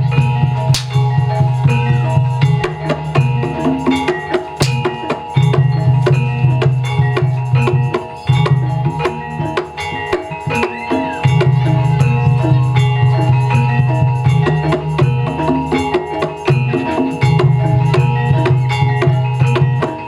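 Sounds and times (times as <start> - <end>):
fast kendang drums: 0.0 - 20.0
metallophone melody: 0.0 - 20.0.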